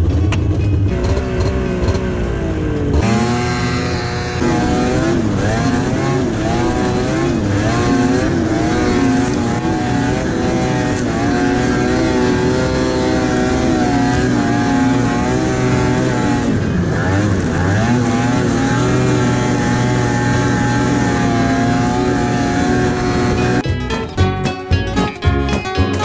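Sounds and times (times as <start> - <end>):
snowmobile engine revving: 0.9 - 23.6.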